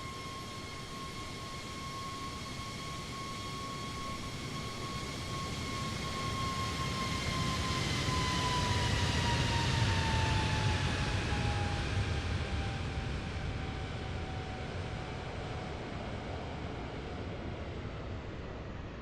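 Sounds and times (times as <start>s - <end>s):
jet airliner taking off: 0.0s - 19.0s.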